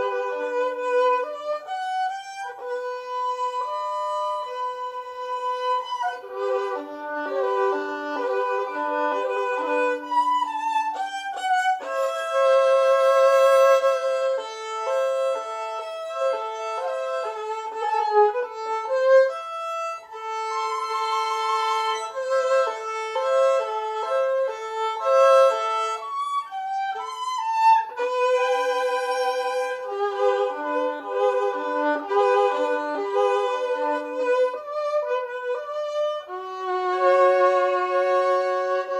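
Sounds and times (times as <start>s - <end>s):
solo violin melody: 0.0s - 38.9s.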